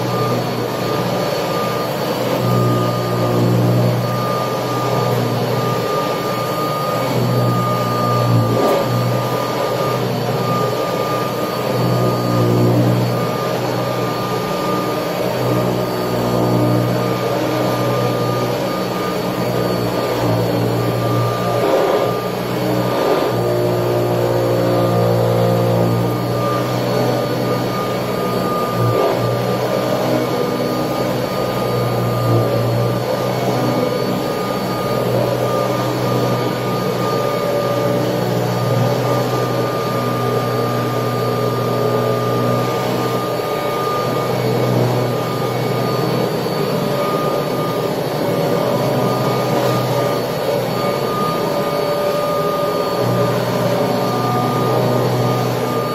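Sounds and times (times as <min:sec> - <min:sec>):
vacuum cleaner whining: 0:00.0 - 0:55.9.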